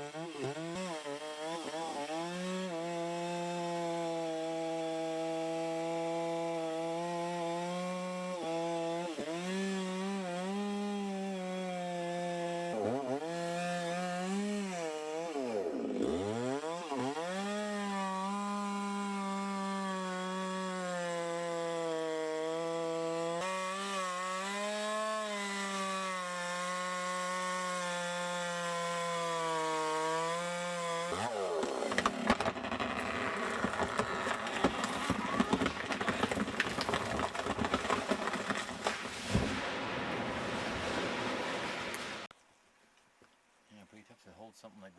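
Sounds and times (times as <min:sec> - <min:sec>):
chainsaw cutting wood: 0:00.0 - 0:42.3.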